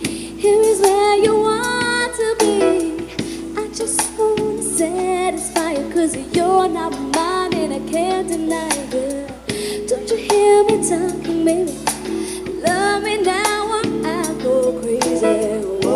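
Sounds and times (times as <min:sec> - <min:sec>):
instrumental backing: 0:00.0 - 0:15.9
woman singing pop-soul song: 0:00.0 - 0:15.9.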